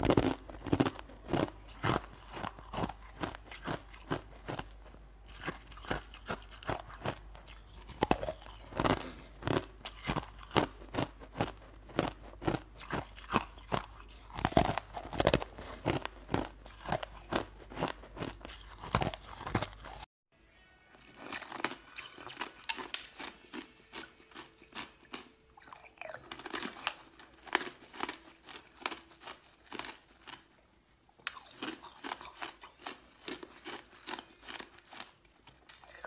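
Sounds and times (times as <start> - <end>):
person chewing crunchy food: 0.0 - 20.1, 21.0 - 36.0.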